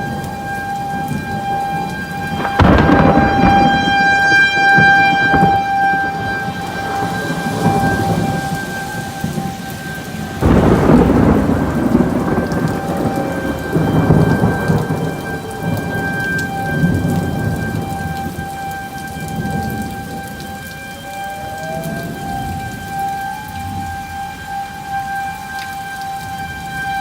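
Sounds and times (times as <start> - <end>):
heavy rain: 0.0 - 27.0
thunderclap rumbling: 0.0 - 27.0
warning siren steady tone: 0.0 - 27.0.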